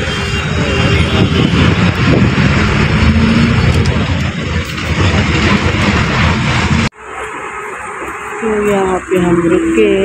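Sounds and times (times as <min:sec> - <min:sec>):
bus engine and road noise: 0:00.0 - 0:10.0.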